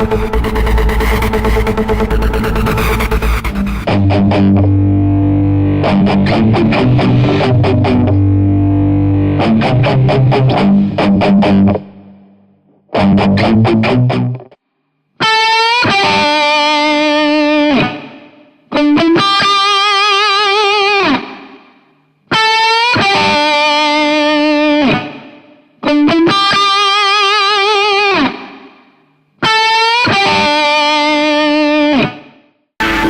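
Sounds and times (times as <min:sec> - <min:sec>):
electric guitar with vibrato: 0:00.0 - 0:14.6, 0:15.2 - 0:33.0.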